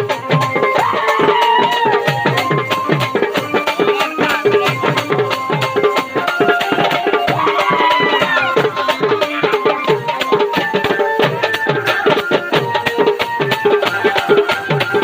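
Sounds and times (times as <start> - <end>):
fast dholki drumming: 0.0 - 15.0.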